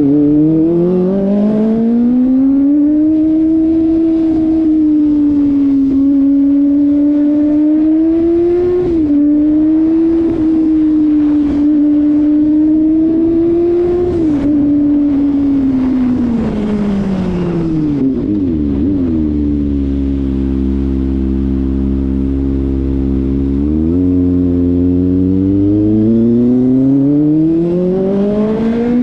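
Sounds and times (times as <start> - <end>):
motorcycle engine at high revs: 0.0 - 29.0.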